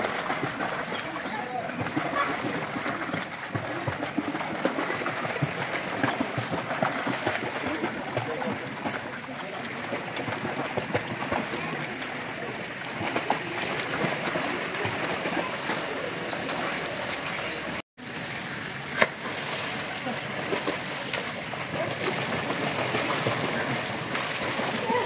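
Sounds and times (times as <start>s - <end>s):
pool water splashing: 0.0s - 25.0s.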